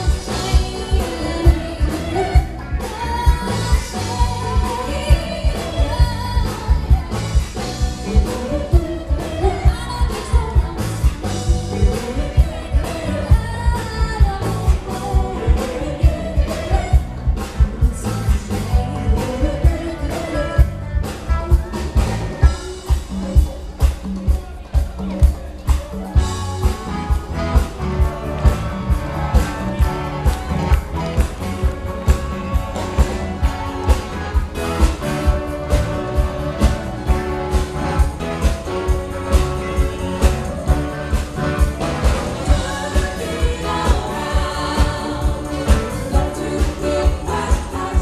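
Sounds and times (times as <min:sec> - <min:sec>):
lead vocalist singing: 0:00.0 - 0:23.9, 0:26.0 - 0:48.0
live band playing dance music: 0:00.0 - 0:48.0.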